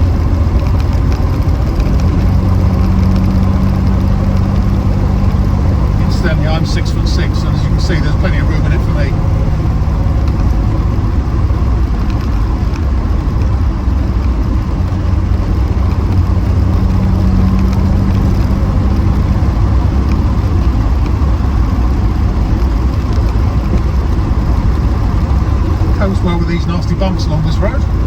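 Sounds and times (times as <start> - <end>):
car engine droning: 0.0 - 28.0
tyre and road noise: 0.0 - 28.0.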